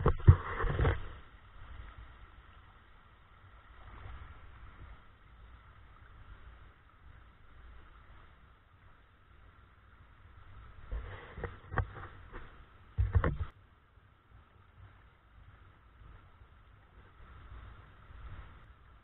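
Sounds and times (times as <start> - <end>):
faint muffled creek flow: 0.0 - 19.0.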